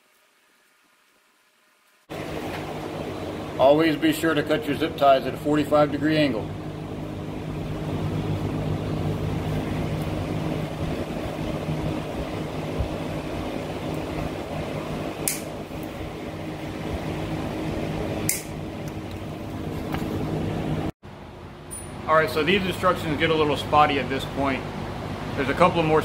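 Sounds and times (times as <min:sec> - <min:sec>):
machine hum: 0:02.1 - 0:26.0.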